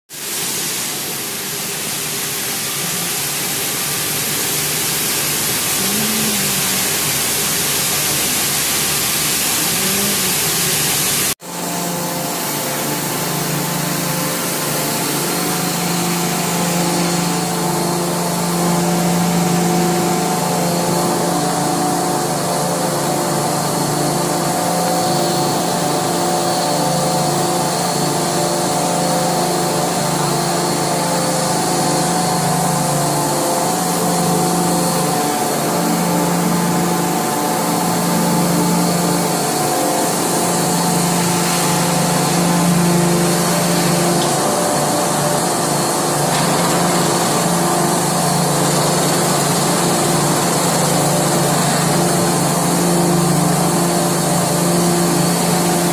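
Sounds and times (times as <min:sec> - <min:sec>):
machinery drone: 0:00.3 - 0:55.9.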